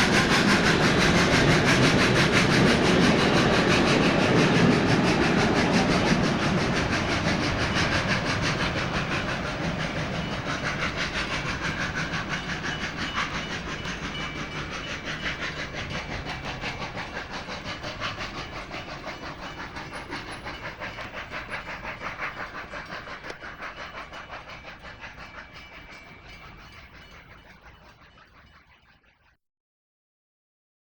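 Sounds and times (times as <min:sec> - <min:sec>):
steam locomotive exhaust beats: 0:00.0 - 0:28.7.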